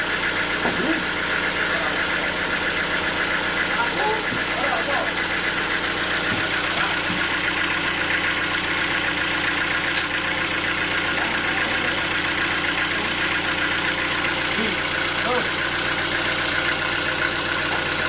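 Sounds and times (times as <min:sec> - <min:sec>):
sawmill machinery droning: 0:00.0 - 0:18.0.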